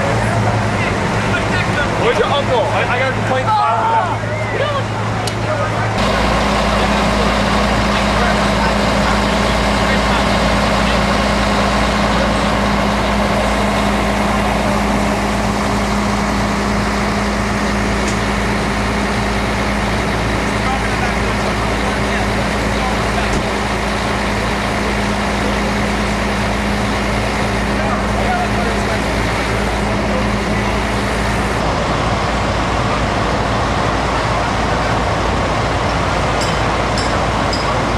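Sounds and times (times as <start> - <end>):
diesel engine idling: 0.0 - 37.9
loud steady rushing noise: 0.0 - 37.9.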